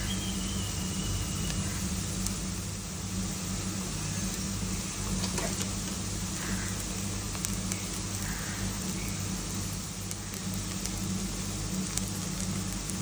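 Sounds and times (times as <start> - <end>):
constant low hum: 0.0 - 13.0
onions sizzling in oil: 0.0 - 13.0.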